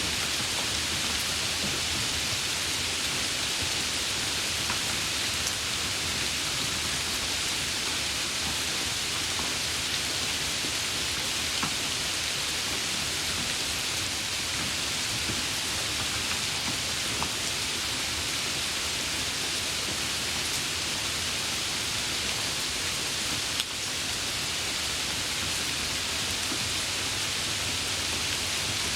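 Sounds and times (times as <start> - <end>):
steady rain hiss: 0.0 - 28.9.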